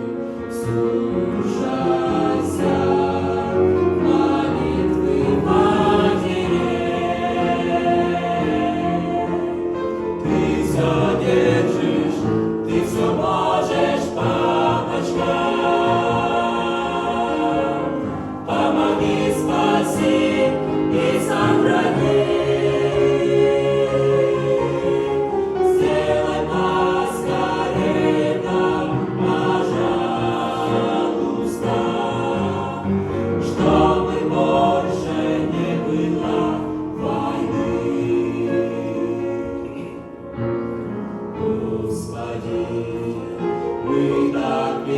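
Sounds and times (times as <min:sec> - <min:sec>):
choir singing sustained notes: 0:00.0 - 0:44.9.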